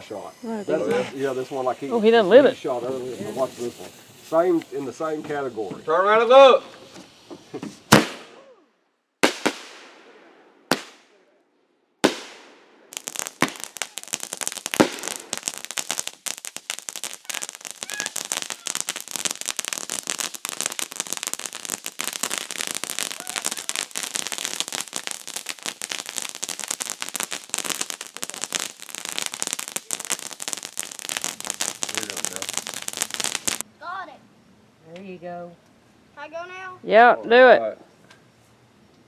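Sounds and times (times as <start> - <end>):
firework bangs: 0.0 - 5.9, 6.6 - 8.4, 9.2 - 11.2, 12.0 - 33.7
fireworks crackling: 0.0 - 8.4, 9.2 - 11.2, 12.0 - 34.0.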